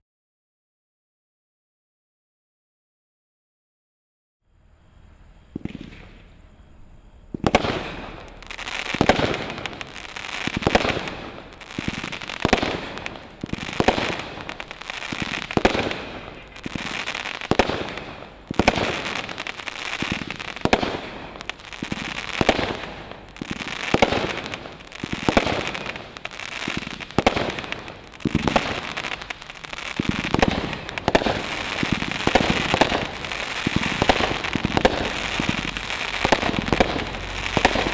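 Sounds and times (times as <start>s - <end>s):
dense firework crackle: 4.6s - 37.9s
firework shots: 4.9s - 37.9s.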